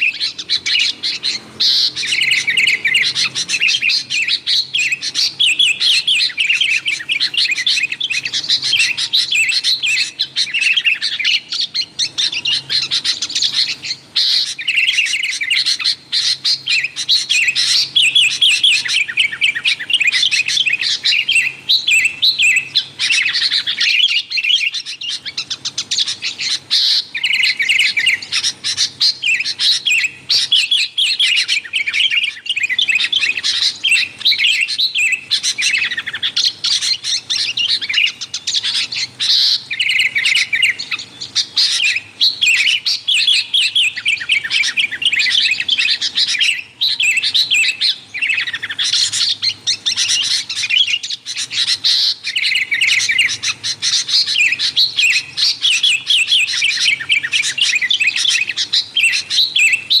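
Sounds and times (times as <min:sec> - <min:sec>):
bulbuls chattering: 0:00.0 - 1:00.0.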